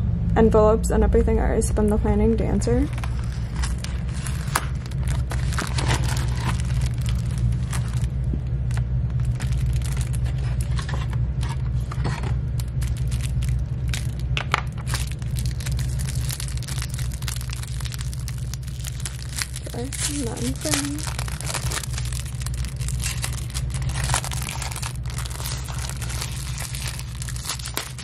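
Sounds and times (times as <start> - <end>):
steady low hum: 0.0 - 28.0
paper and plastic rustling: 2.8 - 28.0.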